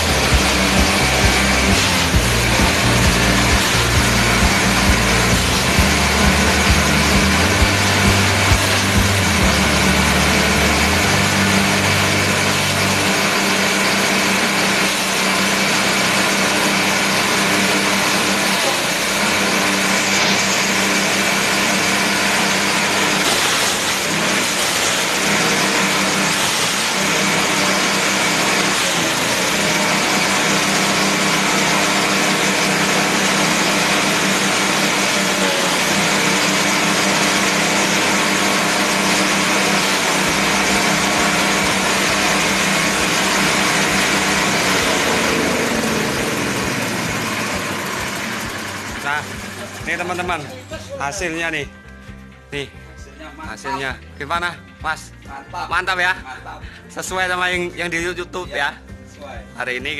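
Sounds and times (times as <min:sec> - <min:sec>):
grass chopper engine running: 0:00.0 - 0:51.4.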